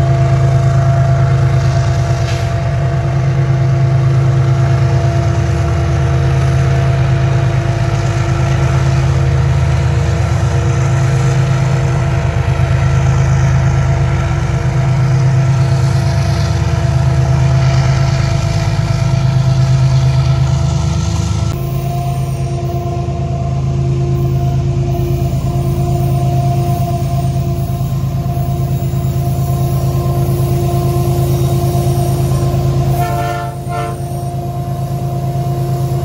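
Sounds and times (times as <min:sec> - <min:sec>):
locomotive engine drone: 0:00.0 - 0:36.0.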